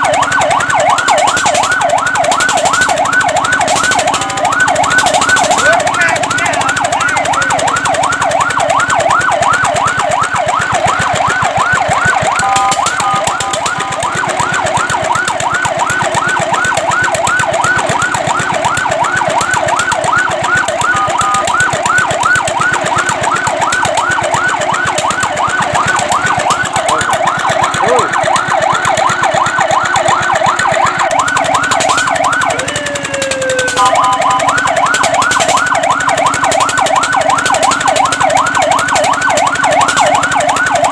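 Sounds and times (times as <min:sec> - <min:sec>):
fire truck siren yelping: 0:00.0 - 0:40.9.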